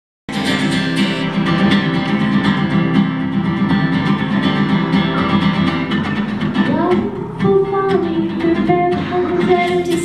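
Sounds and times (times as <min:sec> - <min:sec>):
acoustic guitar strumming: 0:00.3 - 0:10.0.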